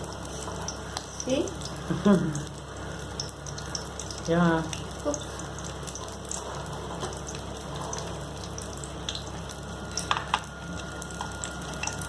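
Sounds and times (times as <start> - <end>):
spring rolls sizzling in hot oil: 0.0 - 12.0.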